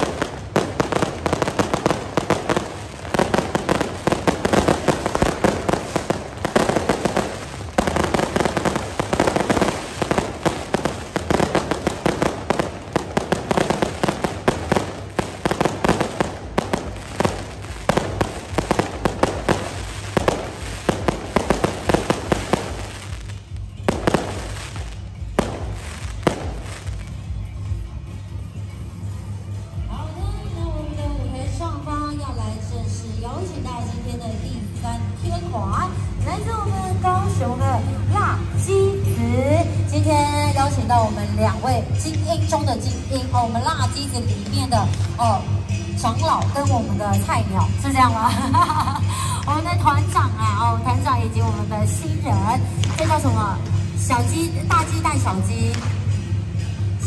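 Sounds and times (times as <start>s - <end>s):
fireworks and firecrackers crackling: 0.0s - 27.9s, 37.2s - 57.0s.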